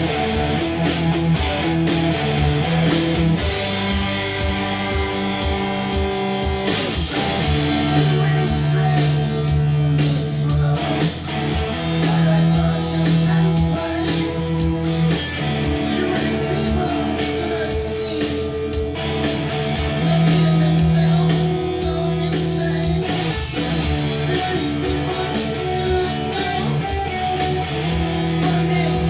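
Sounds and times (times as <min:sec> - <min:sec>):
heavy metal backing track: 0:00.0 - 0:29.0.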